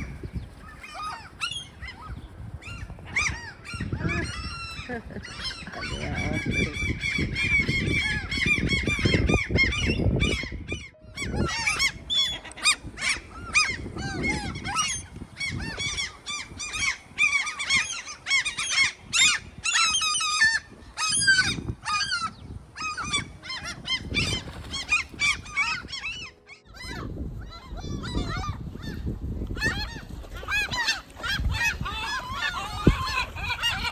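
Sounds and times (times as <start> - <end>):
gulls calling: 0.0 - 33.9
wind rumbling on microphone: 0.0 - 33.9.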